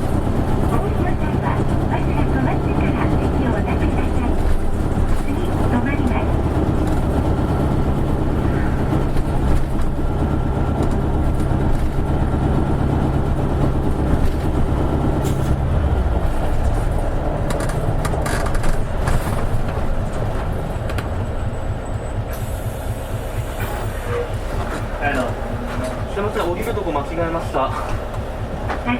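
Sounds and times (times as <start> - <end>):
diesel bus engine drone: 0.0 - 28.9
interior clicks and rattles: 0.0 - 28.9.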